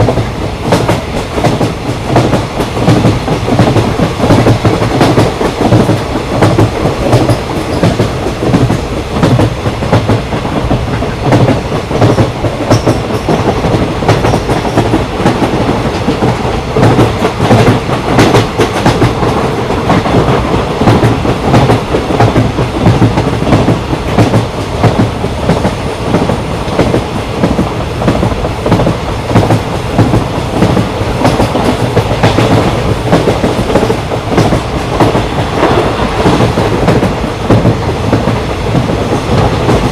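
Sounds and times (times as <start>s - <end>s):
train rumbling: 0.0s - 39.9s
wheels clickety-clack on rail joints: 0.0s - 39.9s.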